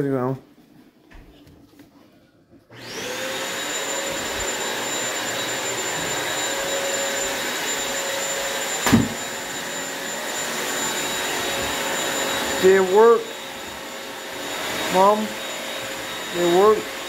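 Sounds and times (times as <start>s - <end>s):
vacuum motor whine: 2.7s - 17.0s.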